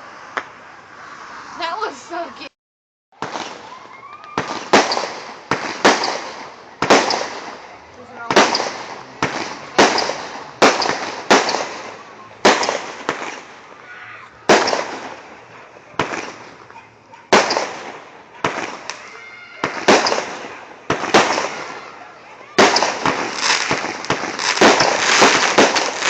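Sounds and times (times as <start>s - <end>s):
fireworks bangs with crackle: 3.1s - 26.0s.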